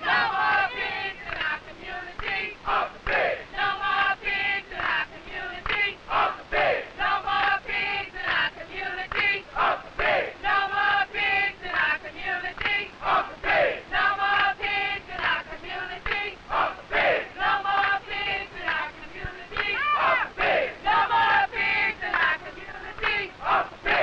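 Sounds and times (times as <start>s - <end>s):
crowd chanting in unison: 0.0s - 24.0s.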